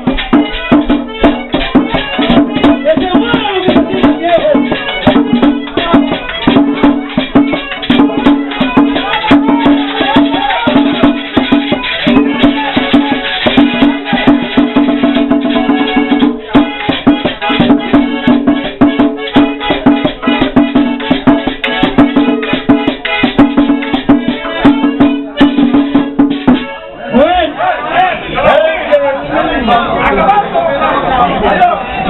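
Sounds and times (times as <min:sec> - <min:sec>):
fast dense percussion beat: 0:00.0 - 0:26.7
live merengue band: 0:00.0 - 0:32.0.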